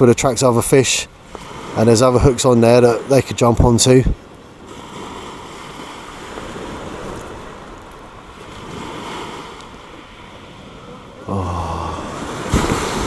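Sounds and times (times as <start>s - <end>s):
small waves washing onto beach: 0.0s - 13.0s.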